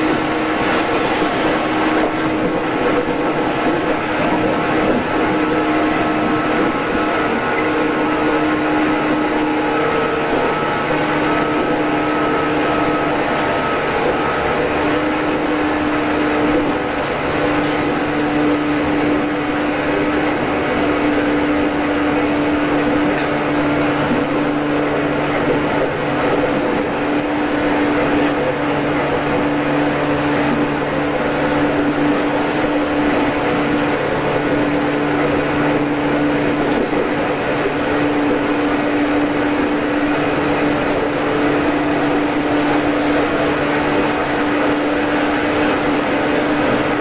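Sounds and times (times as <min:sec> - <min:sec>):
electric train humming: 0:00.0 - 0:47.0
train rolling noise: 0:00.0 - 0:47.0.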